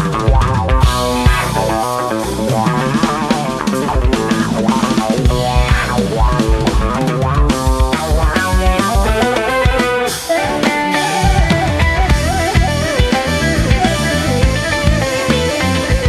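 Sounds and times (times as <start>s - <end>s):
funk band instrumental: 0.0s - 16.0s.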